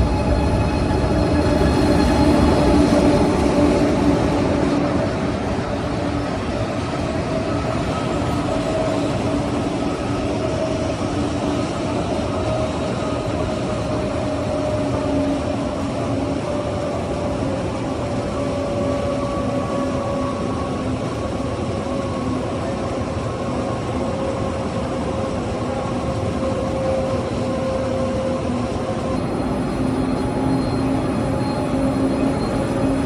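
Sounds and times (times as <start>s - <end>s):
train rumbling: 0.0s - 33.0s.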